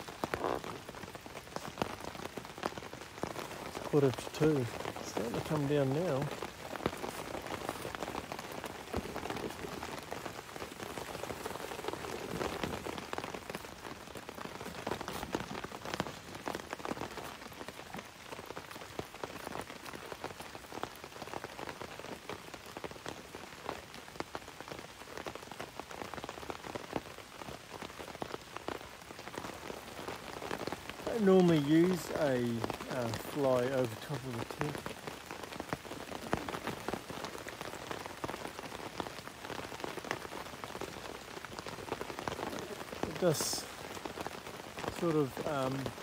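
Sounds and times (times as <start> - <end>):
rain pattering on tent fabric: 0.0 - 46.0.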